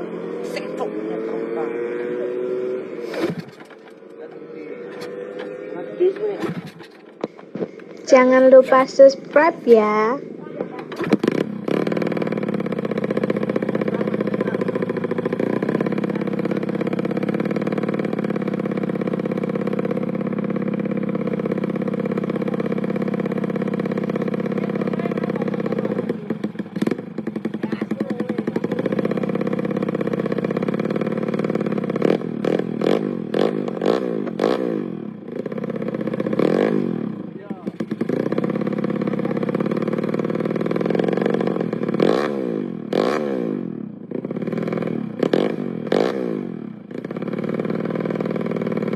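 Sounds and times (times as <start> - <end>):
motorcycle engine idling and revving: 0.0 - 48.9.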